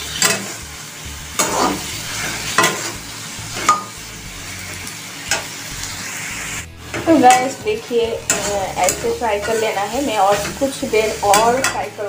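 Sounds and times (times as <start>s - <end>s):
food sizzling in oil: 0.0s - 12.0s
spatula scraping pan: 1.3s - 4.0s, 4.6s - 12.0s.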